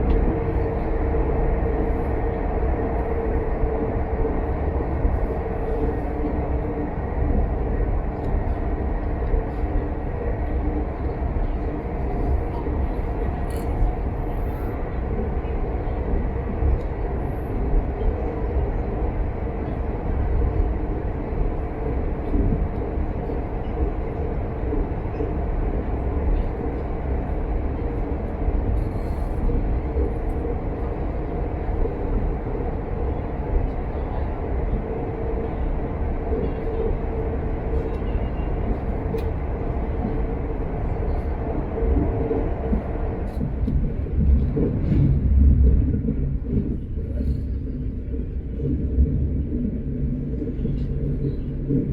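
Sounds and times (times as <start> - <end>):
train rumbling on rails: 0.0 - 51.9.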